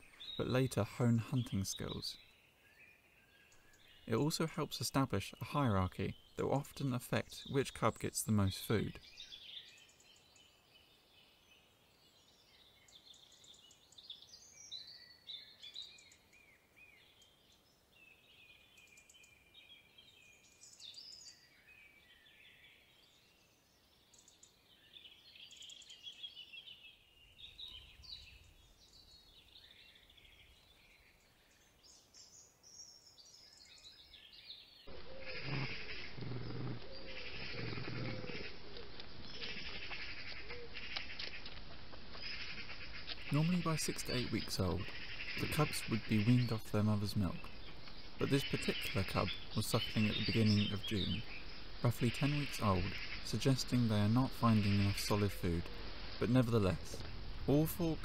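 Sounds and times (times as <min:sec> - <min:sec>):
background noise: 0:00.0 - 0:58.0
birds chirping and warbling: 0:00.0 - 0:58.0.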